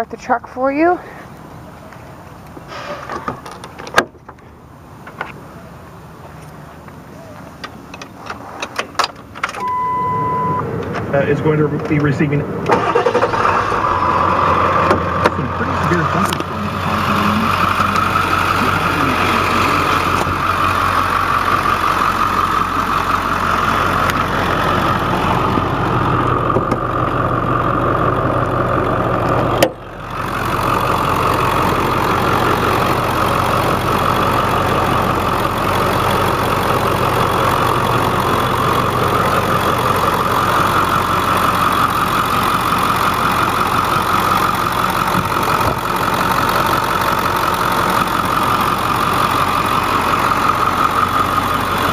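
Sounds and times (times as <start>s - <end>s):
diesel engine idling: 9.2s - 51.9s.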